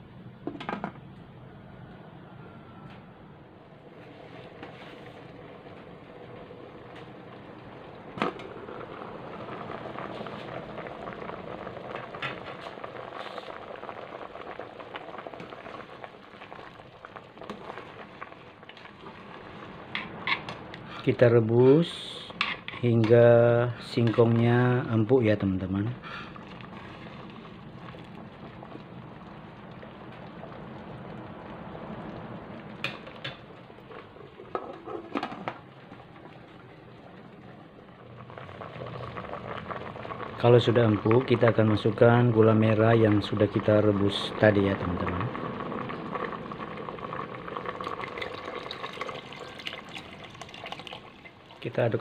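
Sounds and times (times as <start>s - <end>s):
liquid boiling in a pot: 3.2s - 52.0s.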